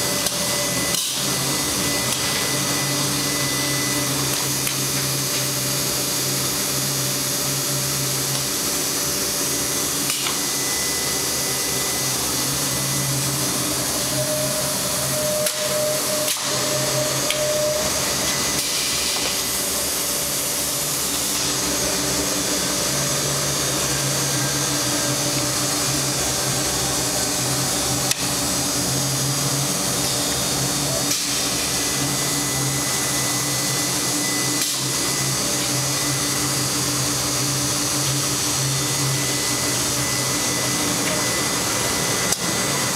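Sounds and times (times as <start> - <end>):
woodworking machine whirring: 0.0 - 42.9.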